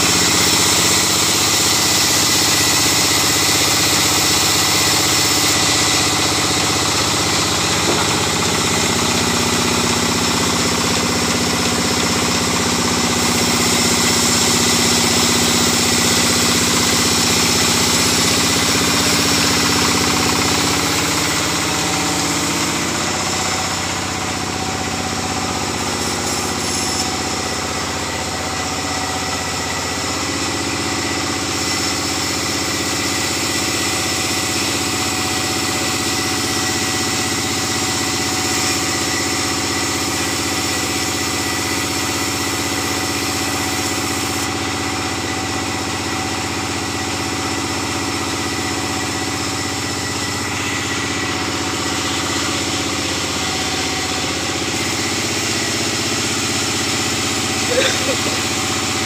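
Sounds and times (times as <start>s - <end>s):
band saw and engine droning: 0.0s - 59.0s.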